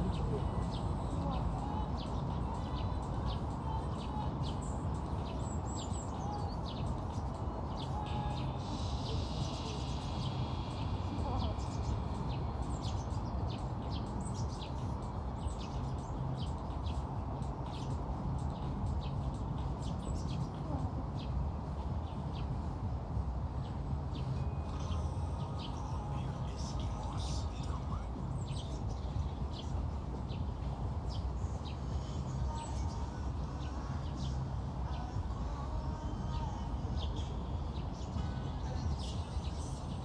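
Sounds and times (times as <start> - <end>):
low background noise: 0.0 - 40.0
small birds chirping: 0.0 - 40.0.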